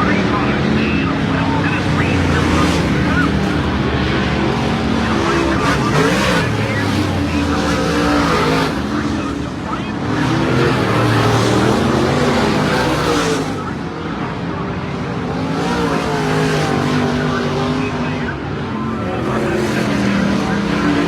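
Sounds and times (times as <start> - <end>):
race car engines at high revs: 0.0 - 21.0.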